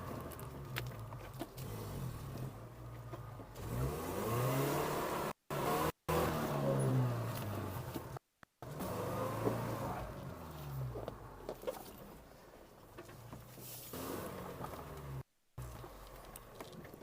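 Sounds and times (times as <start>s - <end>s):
engine revving under load: 0.0s - 11.4s, 13.8s - 16.1s.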